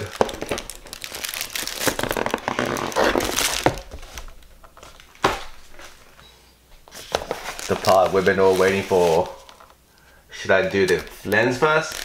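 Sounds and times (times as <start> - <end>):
plastic bag crinkling: 0.0 - 6.1, 6.9 - 9.8, 10.6 - 12.0.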